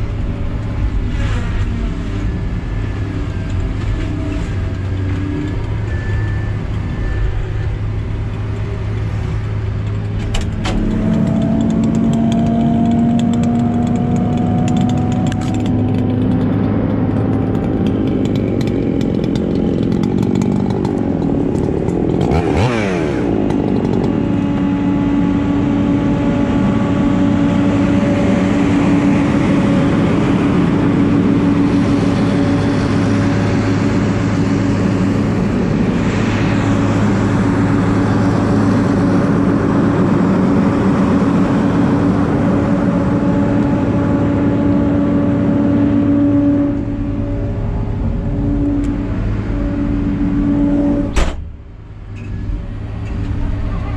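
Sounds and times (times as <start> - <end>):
engine droning: 0.0 - 53.9
higher engine note falling: 0.0 - 53.9.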